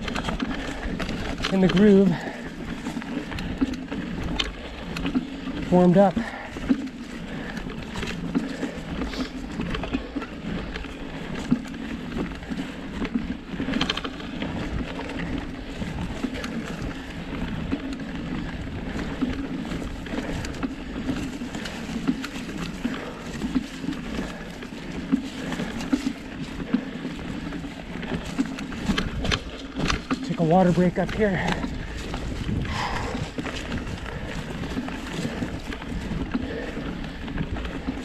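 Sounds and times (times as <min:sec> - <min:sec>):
bike rattling over rocks: 0:00.0 - 0:38.0
bike tyres rolling on dirt: 0:00.0 - 0:38.0.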